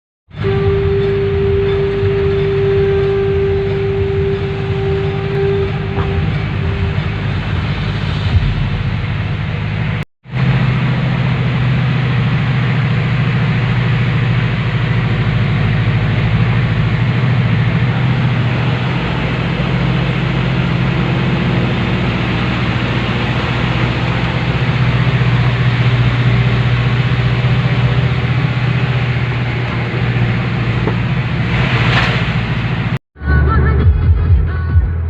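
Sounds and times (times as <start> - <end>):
road noise: 0.3 - 34.6
truck engine running: 0.3 - 35.0.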